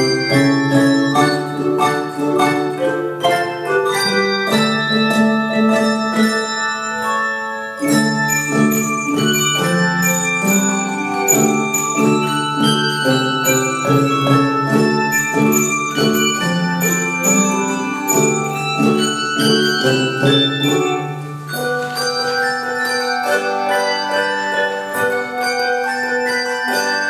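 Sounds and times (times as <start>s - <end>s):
tuned bells melody: 0.0s - 27.0s.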